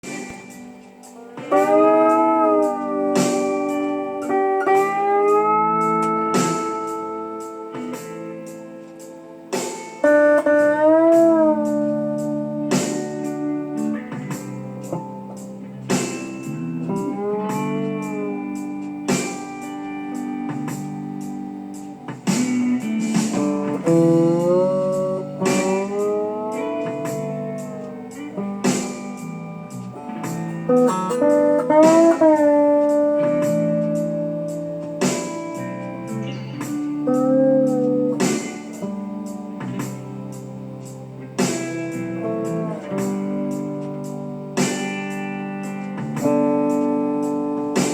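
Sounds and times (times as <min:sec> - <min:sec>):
slide guitar chords: 0:00.0 - 0:47.9.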